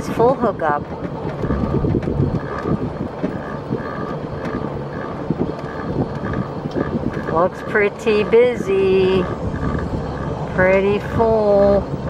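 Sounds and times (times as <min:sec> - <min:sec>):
slow vehicle rumble: 0:00.0 - 0:12.0
wind buffeting microphone: 0:00.0 - 0:12.0.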